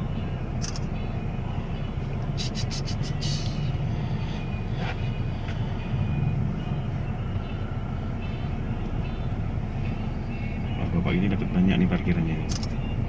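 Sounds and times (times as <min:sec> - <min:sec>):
idling engines rumble: 0:00.0 - 0:13.0.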